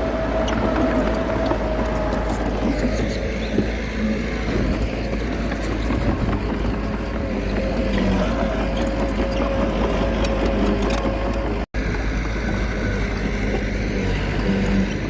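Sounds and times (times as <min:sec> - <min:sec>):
bulldozer diesel engine running: 0:00.0 - 0:15.0
steady whine: 0:00.0 - 0:15.0.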